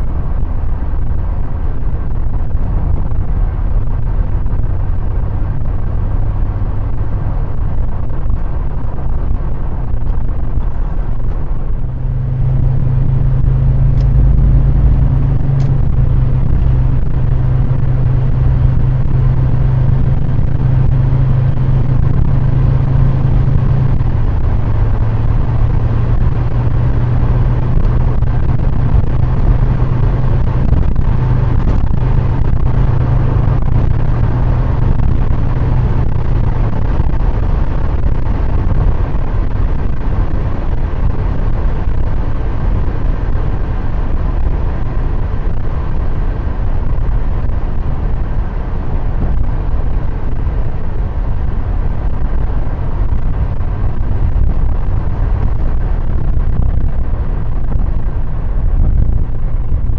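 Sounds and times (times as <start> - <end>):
car road and engine noise: 0.0 - 59.9
loud steady low hum: 0.0 - 59.9.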